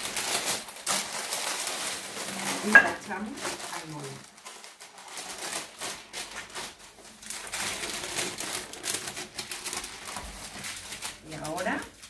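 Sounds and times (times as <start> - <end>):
baking paper crinkling: 0.0 - 12.0.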